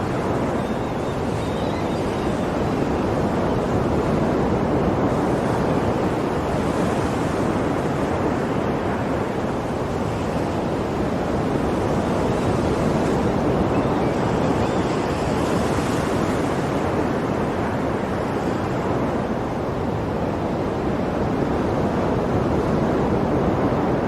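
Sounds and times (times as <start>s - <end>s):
sea waves on a shore: 0.0s - 24.0s.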